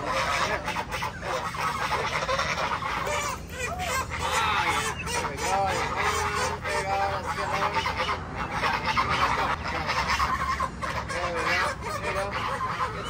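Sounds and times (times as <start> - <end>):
chickens chirping and clucking: 0.0 - 13.0
waterfowl honking: 0.0 - 13.0.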